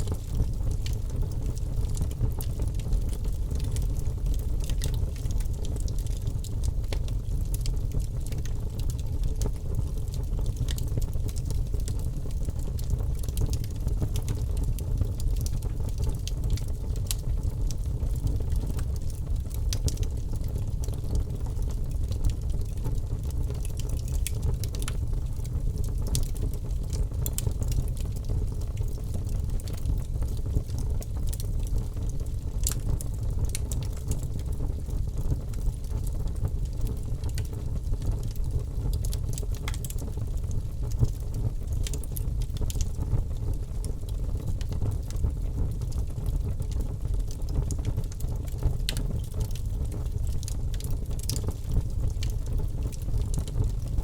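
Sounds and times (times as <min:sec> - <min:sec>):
logs burning in a fireplace: 0:00.0 - 0:54.0.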